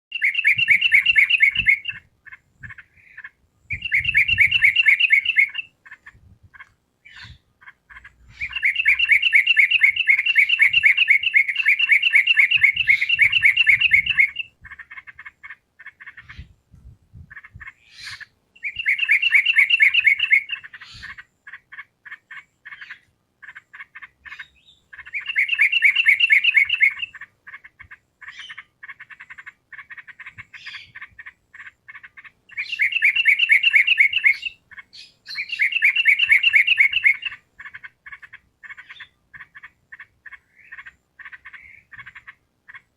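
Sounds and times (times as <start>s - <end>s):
bird chattering song: 0.1s - 42.9s.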